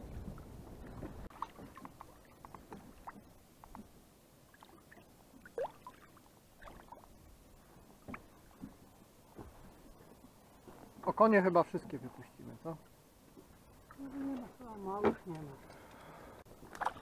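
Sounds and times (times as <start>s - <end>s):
water splashing and gurgling: 0.0s - 17.0s.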